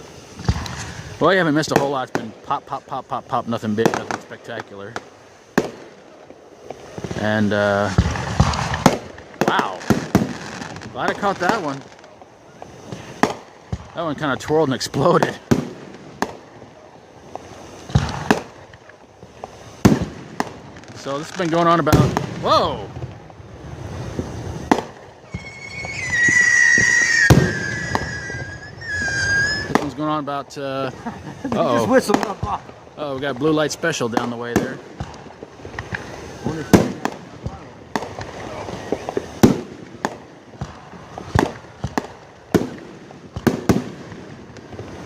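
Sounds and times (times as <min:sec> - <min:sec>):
whistling firework: 0:00.0 - 0:02.8, 0:03.4 - 0:45.0
firework bangs: 0:00.0 - 0:45.0.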